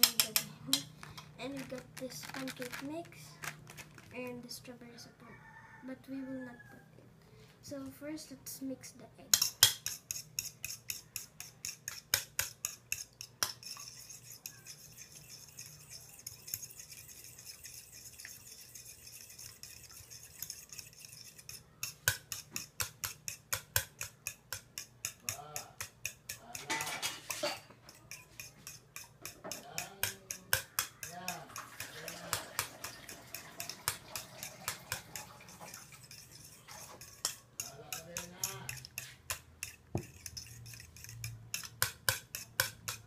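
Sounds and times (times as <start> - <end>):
utensil beating eggs in plastic bowl: 0.0 - 5.8, 9.3 - 43.0.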